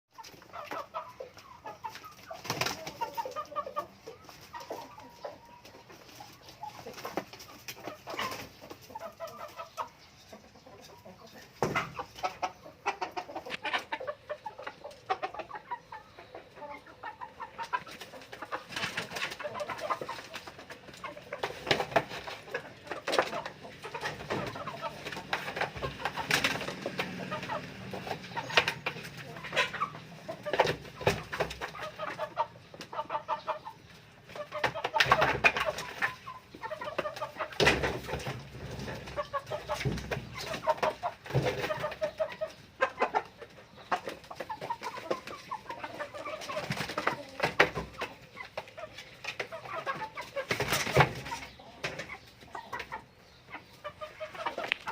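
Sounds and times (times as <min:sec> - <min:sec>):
birds squabbling calls: 0:00.2 - 0:54.9.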